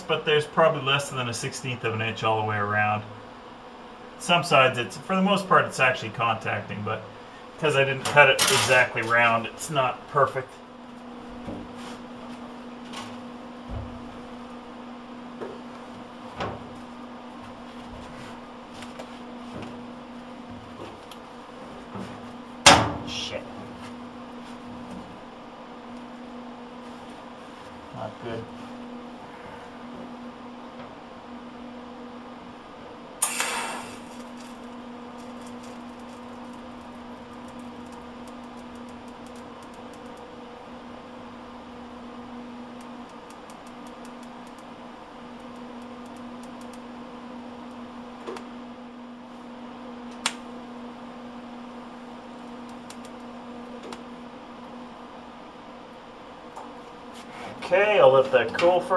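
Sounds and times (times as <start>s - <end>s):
electrical hum: 0.0s - 58.9s.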